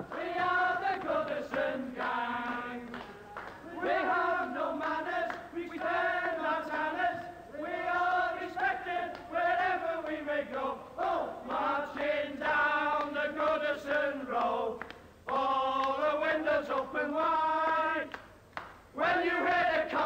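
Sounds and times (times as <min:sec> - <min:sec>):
men singing football song: 0:00.0 - 0:18.2, 0:19.0 - 0:20.0.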